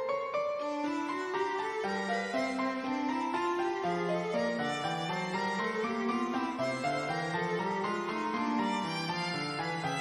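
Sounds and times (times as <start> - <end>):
classical instrumental music: 0.0 - 10.0.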